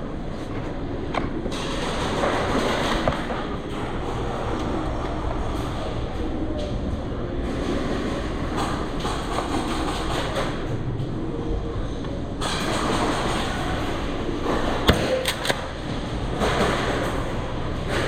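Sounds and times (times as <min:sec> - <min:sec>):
steady rumbling: 0:00.0 - 0:18.0.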